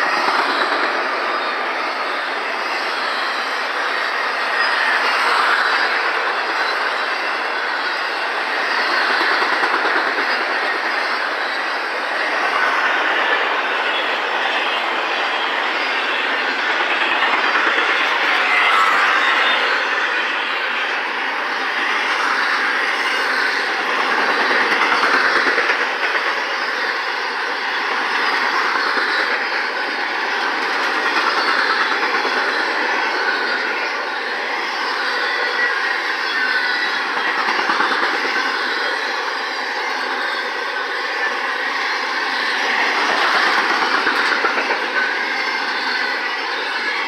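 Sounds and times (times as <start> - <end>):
train wheels clacking on rail: 0.0 - 47.0.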